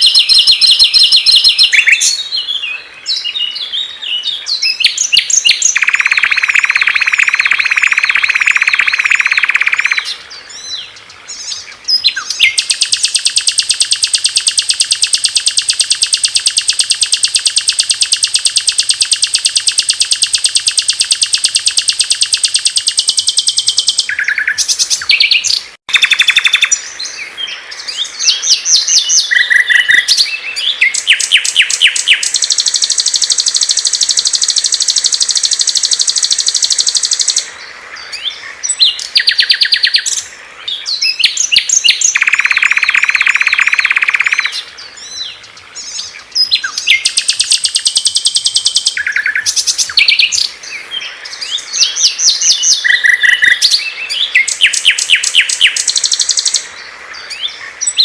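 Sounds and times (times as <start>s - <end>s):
songbirds singing fast trills: 0.0s - 58.0s.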